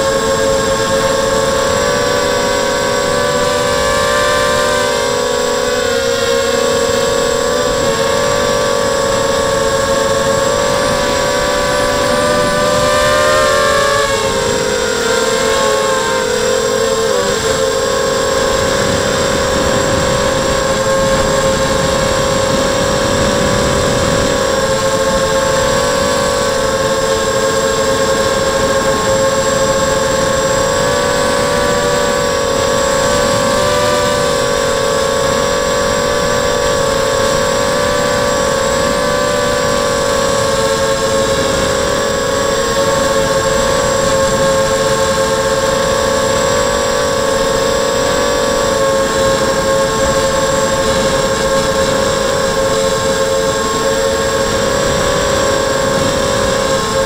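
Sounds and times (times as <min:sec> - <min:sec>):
drone motors and propellers whining: 0:00.0 - 0:57.0.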